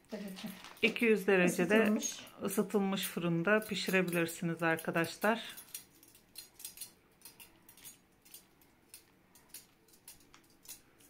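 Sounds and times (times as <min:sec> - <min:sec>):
kitchen utensil clicking and scraping: 0:00.2 - 0:11.0.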